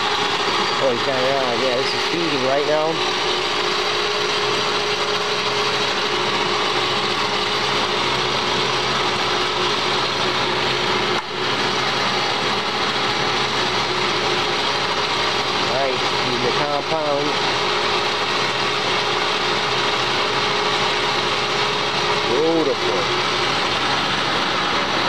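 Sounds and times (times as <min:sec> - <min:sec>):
lathe gears running: 0:00.0 - 0:25.0
machine hum: 0:00.0 - 0:25.0.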